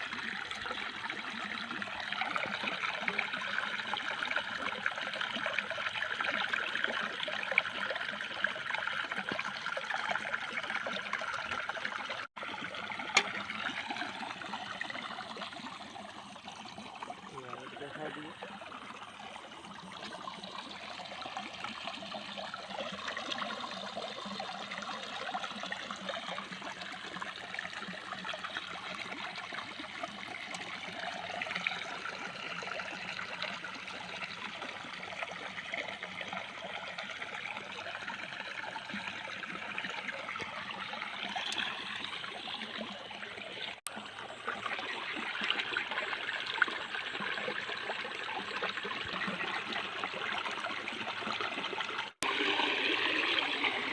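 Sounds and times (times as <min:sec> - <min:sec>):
running trickling water: 0:00.0 - 0:53.9.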